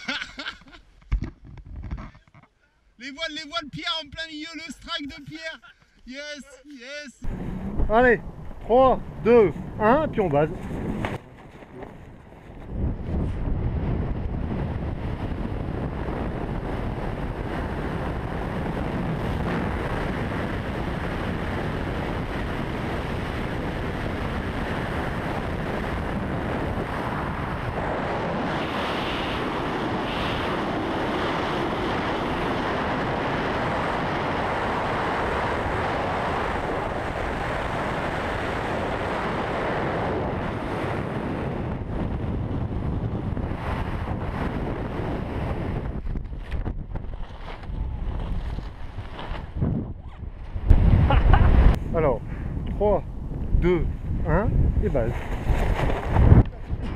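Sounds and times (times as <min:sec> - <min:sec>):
wind rushing over microphone: 0:07.2 - 0:56.9.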